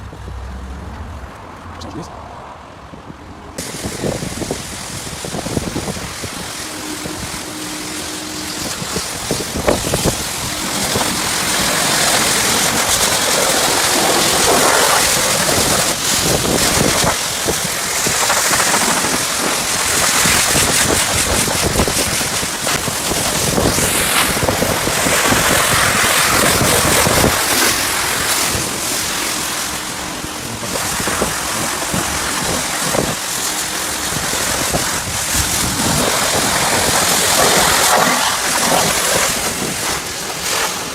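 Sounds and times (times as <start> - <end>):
pressure washer spraying: 3.6 - 40.9.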